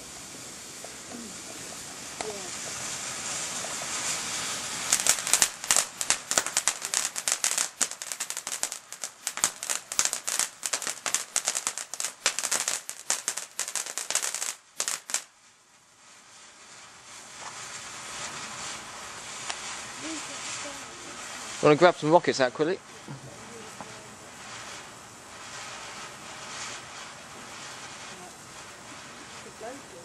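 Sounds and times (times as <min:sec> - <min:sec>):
firework crackling: 0:00.0 - 0:30.0
firework hissing: 0:00.0 - 0:30.0.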